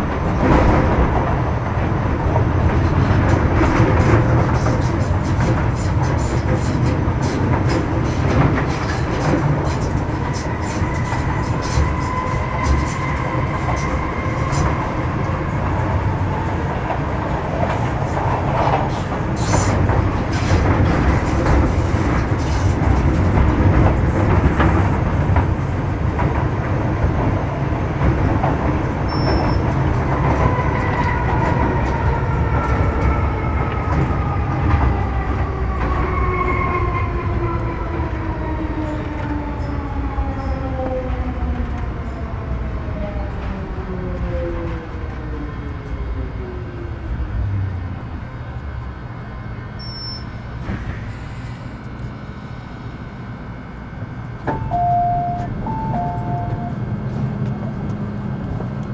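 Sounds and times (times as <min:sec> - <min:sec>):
train wheel and rail rumble: 0:00.0 - 0:58.9.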